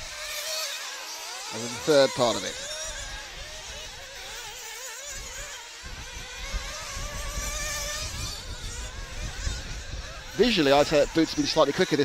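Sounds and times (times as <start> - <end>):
model car engines buzzing: 0.0 - 12.0.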